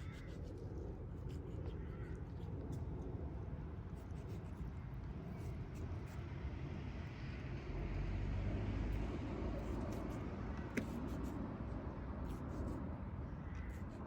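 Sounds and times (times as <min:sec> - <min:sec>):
low rumbling outdoor noise: 0:00.0 - 0:14.0.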